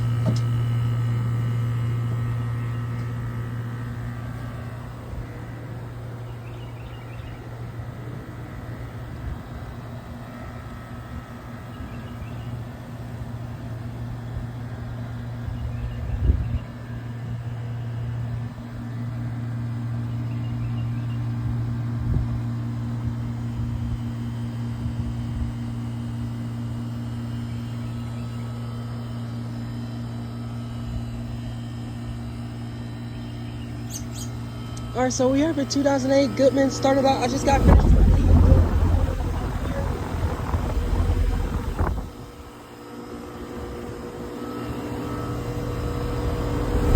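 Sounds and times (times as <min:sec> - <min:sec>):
air conditioner unit humming: 0:00.0 - 0:46.9.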